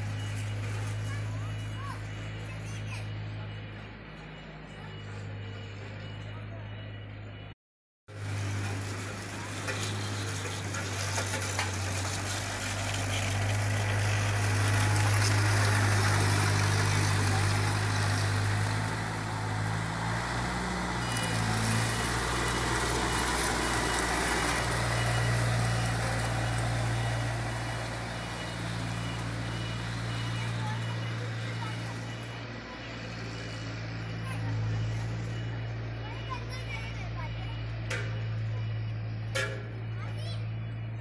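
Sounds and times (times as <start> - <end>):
road roller diesel engine rumbling: 0.0 - 41.0.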